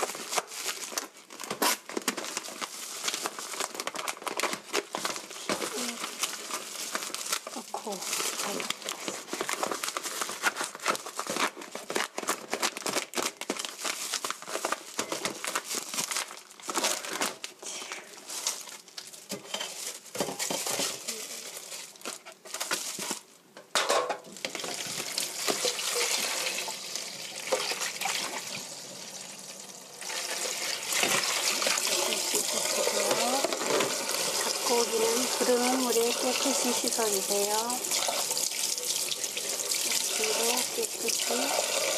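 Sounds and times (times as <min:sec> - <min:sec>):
plastic film crinkling and tearing: 0:00.0 - 0:23.4, 0:24.2 - 0:41.9.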